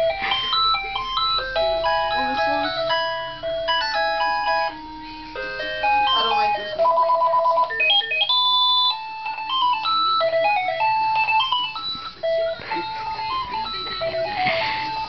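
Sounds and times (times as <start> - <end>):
phone electronic ringtone: 0.0 - 15.0.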